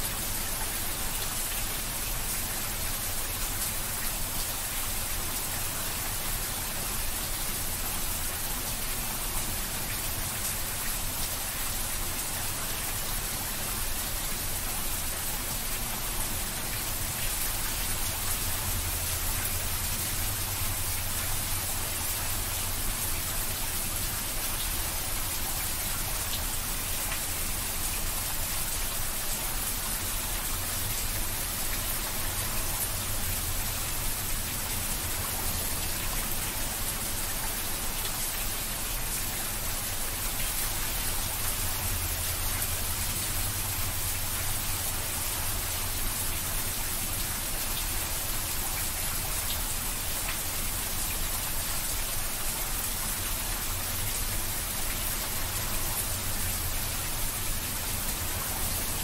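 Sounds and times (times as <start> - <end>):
heavy rain on a rooftop: 0.0 - 59.0.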